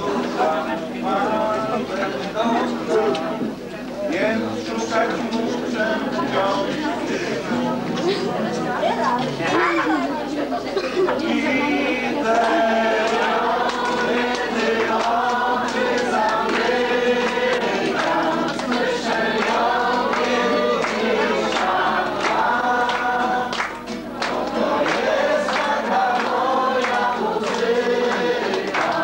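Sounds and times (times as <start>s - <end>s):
group of people singing: 0.0s - 9.6s, 10.5s - 29.0s.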